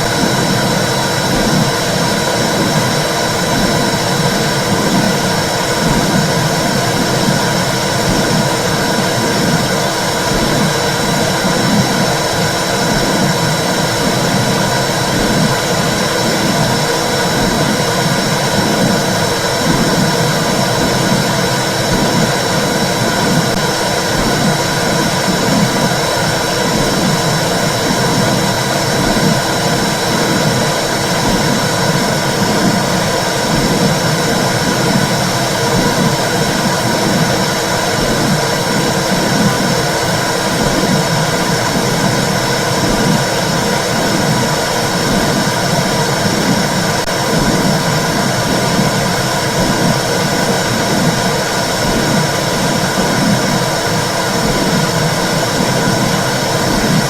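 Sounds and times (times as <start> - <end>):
low heartbeat pulse: 0.0 - 57.0.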